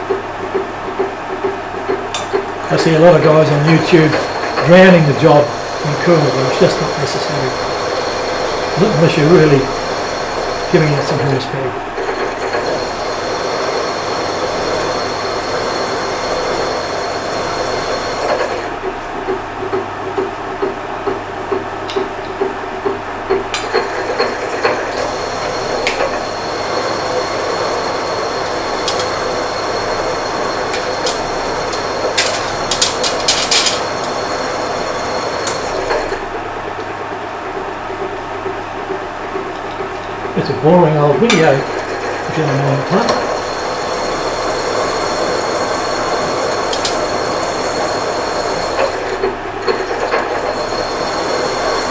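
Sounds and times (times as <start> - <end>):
drill machine running: 2.4 - 19.3, 22.9 - 37.0, 38.8 - 51.9.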